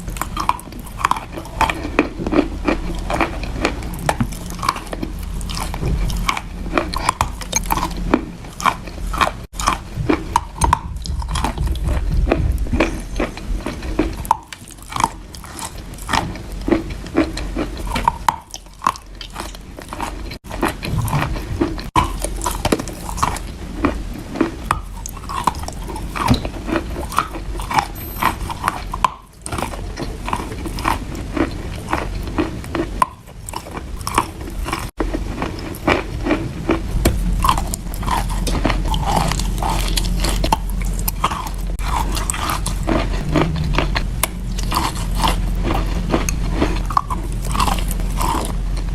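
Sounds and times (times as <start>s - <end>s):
soft wet chewing: 0.0s - 48.9s.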